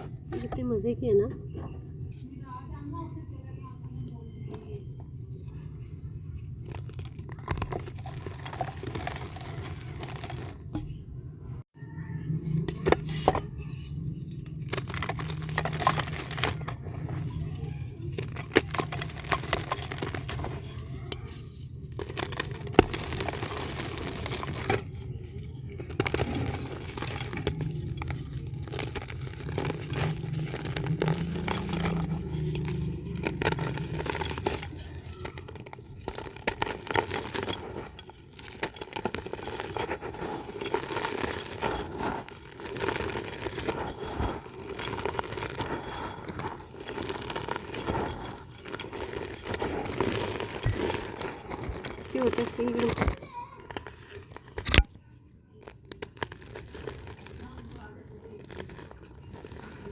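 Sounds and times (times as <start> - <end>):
dirt crumbling with crackles: 0.0 - 11.0, 11.9 - 59.9.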